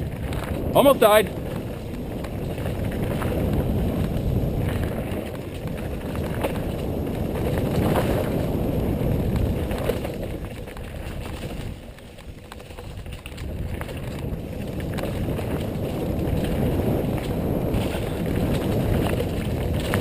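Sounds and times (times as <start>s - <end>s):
mountain bike rolling on dirt trail: 0.0s - 20.0s
wind rushing over microphone: 0.0s - 20.0s.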